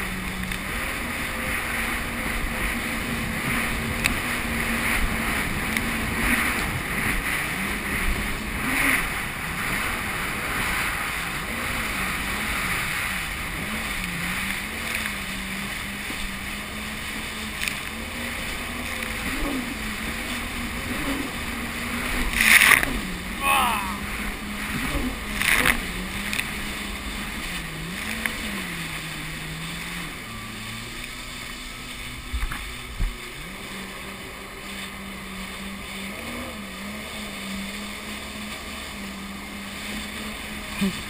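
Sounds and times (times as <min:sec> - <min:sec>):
jet ski engine running: 0:00.0 - 0:41.0
rush of water and wind: 0:00.0 - 0:41.0.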